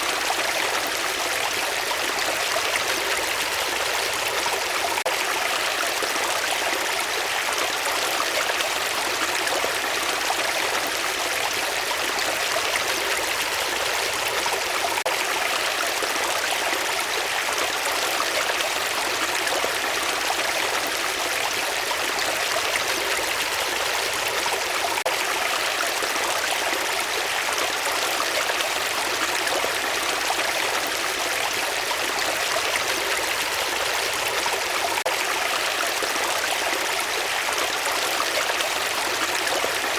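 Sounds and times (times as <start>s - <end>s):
stream of water babbling: 0.0s - 39.9s.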